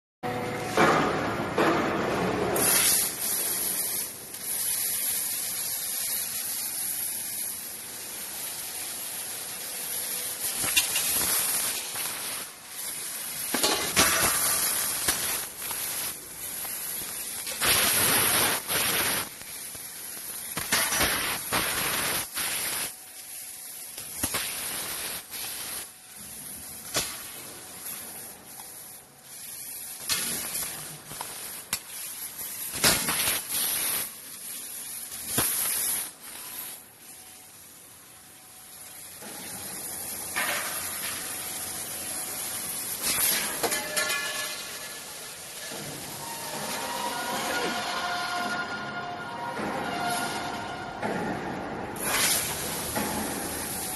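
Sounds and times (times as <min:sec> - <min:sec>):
laser cutter gas hissing: 0:02.4 - 0:51.2, 0:52.0 - 0:53.9.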